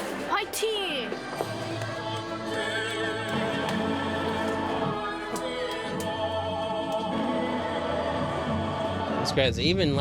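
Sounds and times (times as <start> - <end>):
choir-like sustained singing: 1.2 - 9.5.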